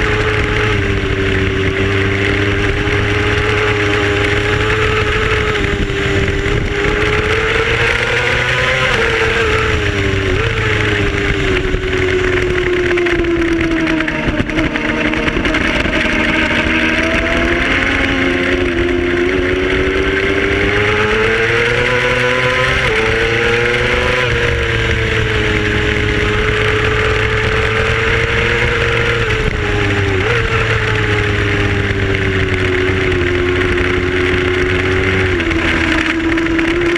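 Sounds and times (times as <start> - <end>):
racing motorcycle engine: 0.0 - 36.9
wind noise: 0.0 - 36.9.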